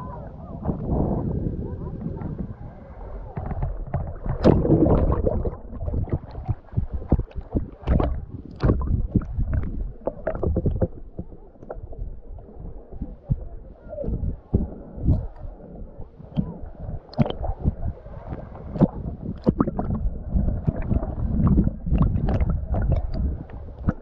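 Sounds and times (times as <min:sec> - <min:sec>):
water splashing and sloshing: 0:01.6 - 0:24.0.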